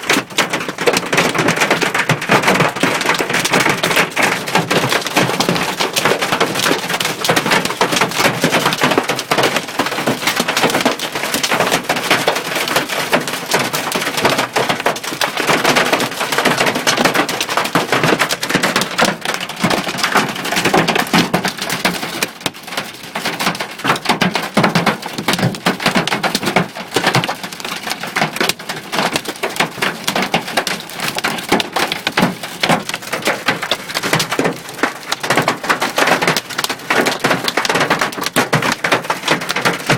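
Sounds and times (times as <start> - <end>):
hail pelting a car roof: 0.0 - 39.9.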